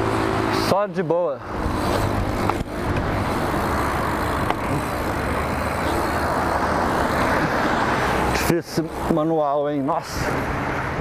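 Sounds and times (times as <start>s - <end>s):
bike tyre rumble: 1.4s - 11.0s.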